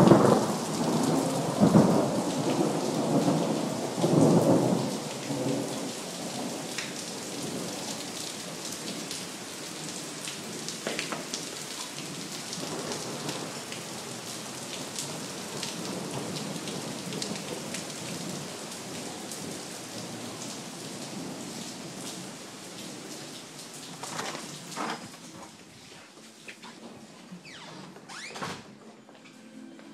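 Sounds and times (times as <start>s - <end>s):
raindrops ticking on surfaces: 0.0s - 28.2s
heavy rain falling: 0.0s - 28.3s.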